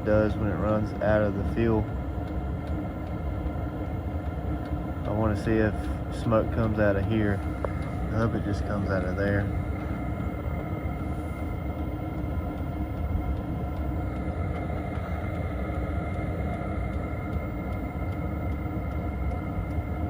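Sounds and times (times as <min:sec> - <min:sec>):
blower fan hum: 0:00.0 - 0:20.0
diesel heater combustion rumble: 0:00.0 - 0:20.0.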